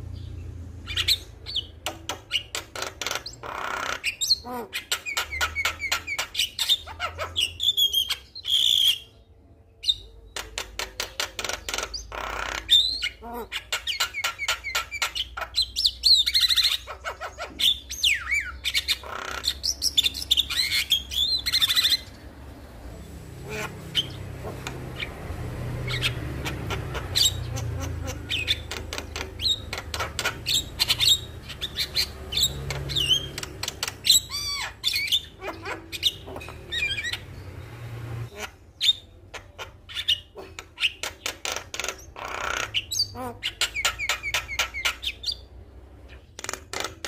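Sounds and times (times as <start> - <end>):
myna bird singing: 0.0 - 47.0.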